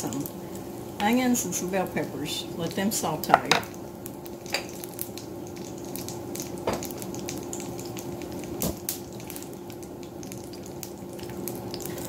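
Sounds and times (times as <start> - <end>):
bacon fat sizzling in a skillet: 0.0 - 12.0.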